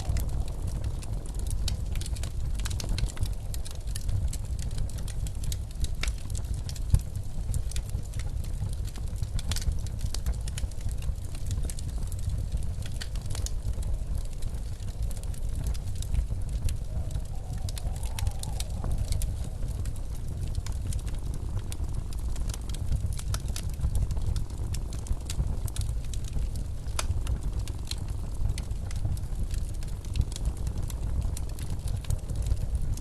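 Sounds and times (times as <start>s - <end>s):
low rumble of blizzard wind: 0.0s - 33.0s
wood fire crackling and popping: 0.0s - 33.0s.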